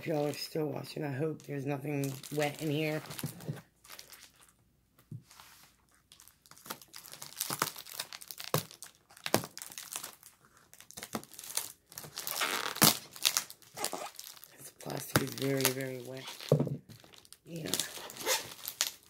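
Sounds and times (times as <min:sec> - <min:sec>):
plastic packaging crinkling: 0:01.9 - 0:04.6, 0:05.8 - 0:19.0.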